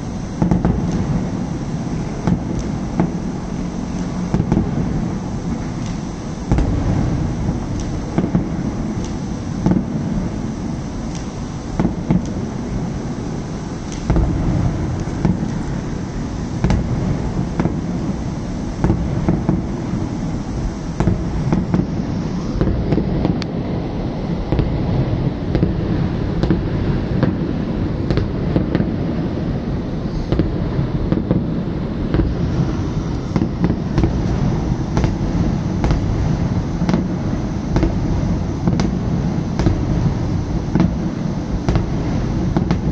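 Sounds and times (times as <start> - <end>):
fireworks bangs: 0.0 - 42.9
low rumble of fireworks bursts: 0.0 - 42.9.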